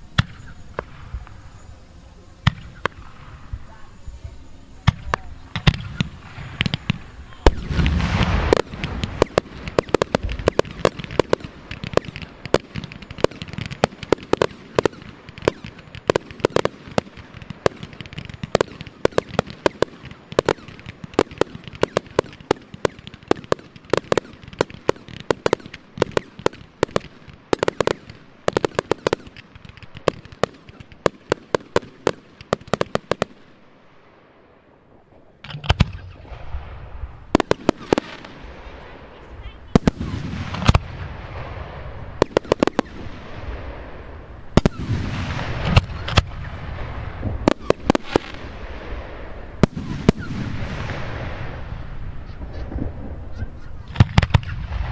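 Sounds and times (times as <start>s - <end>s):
fireworks bursts and crackling: 0.0s - 54.9s.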